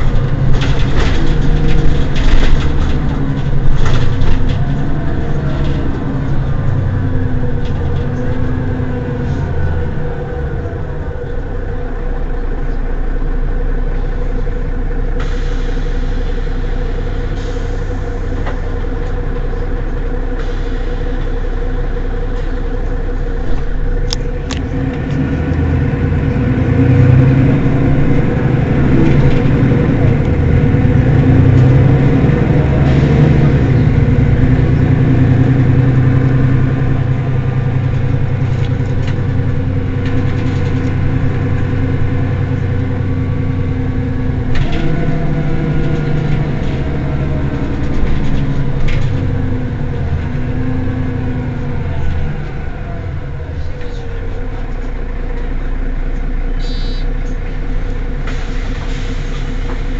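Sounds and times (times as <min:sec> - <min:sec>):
bus diesel engine idling: 0:00.0 - 0:59.9.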